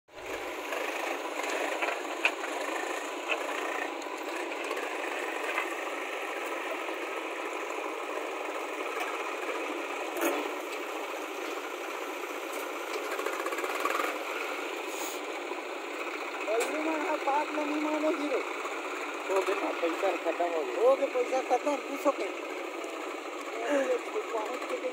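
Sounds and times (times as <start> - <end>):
backhoe digging soil: 0.1 - 22.0
diesel engines running: 0.1 - 24.9.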